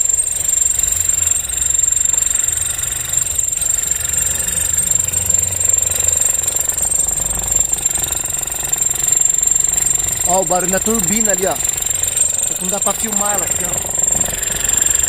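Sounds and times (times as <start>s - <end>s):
car engine with knocking clatter: 0.0s - 15.0s.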